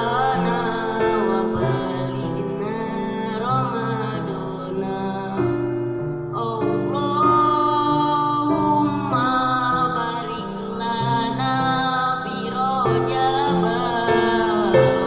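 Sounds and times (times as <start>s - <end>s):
person singing long drawn-out notes: 0.0s - 5.6s, 6.3s - 15.0s
plucked string accompaniment: 0.0s - 15.0s.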